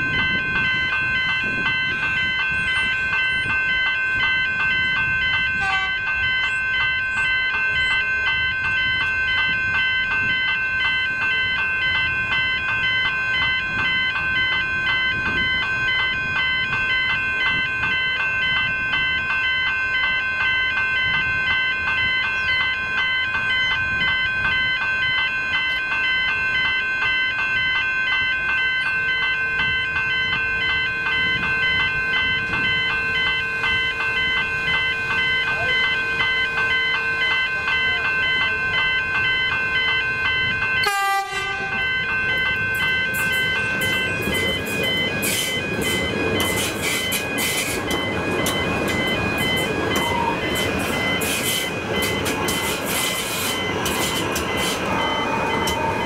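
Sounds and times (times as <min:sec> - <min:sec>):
level crossing bells ringing: 0:00.0 - 0:56.0
swing gate alarms: 0:00.0 - 0:56.0.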